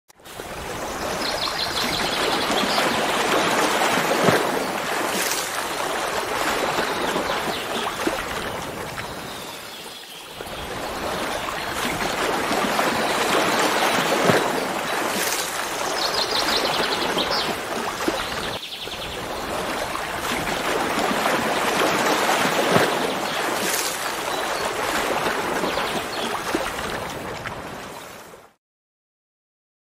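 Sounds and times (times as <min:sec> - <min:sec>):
running water: 0:00.2 - 0:28.2.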